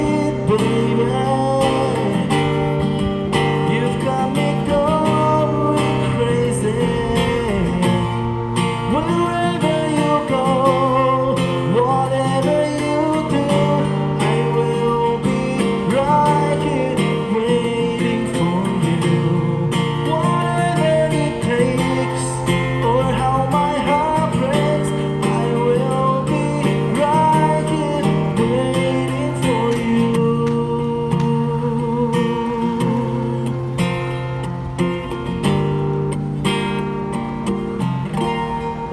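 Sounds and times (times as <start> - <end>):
acoustic guitar: 0.0 - 38.9.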